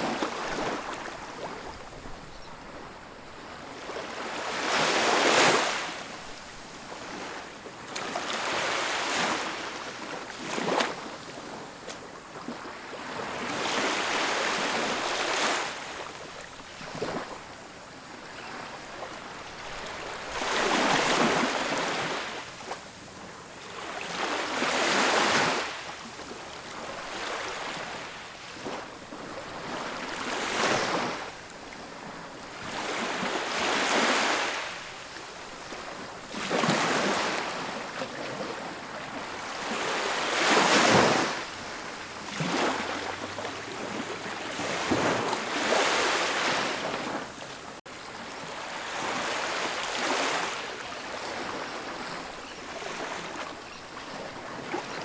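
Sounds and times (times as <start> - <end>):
faint steady surf: 0.0 - 55.0
ocean waves breaking on beach: 0.0 - 55.0.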